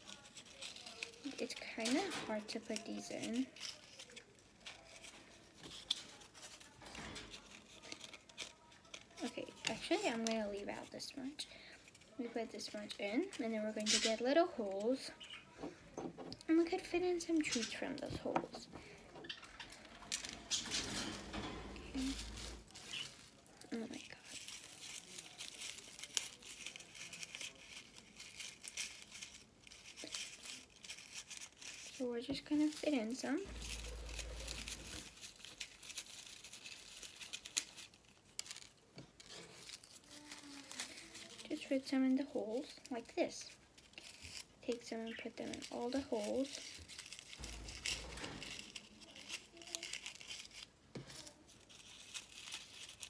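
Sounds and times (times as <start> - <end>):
shredded paper crinkling: 0.0 - 15.6, 19.6 - 53.0.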